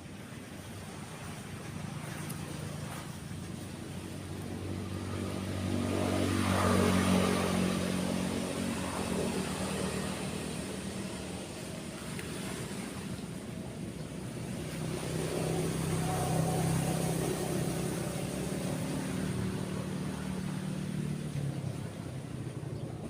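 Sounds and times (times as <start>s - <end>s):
waves washing: 0.0s - 23.0s
motor vehicle driving past: 2.0s - 13.3s, 14.0s - 23.0s.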